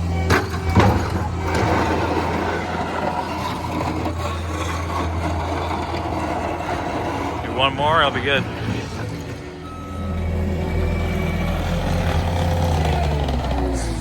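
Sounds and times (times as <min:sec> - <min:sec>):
diesel engine running: 0:00.0 - 0:14.0
snow pusher scraping pavement: 0:00.0 - 0:14.0.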